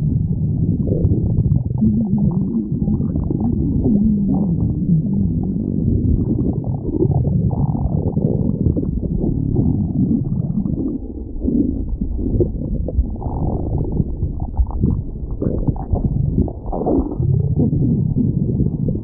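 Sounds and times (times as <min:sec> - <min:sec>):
stomach growling and gurgling: 0:00.0 - 0:19.0.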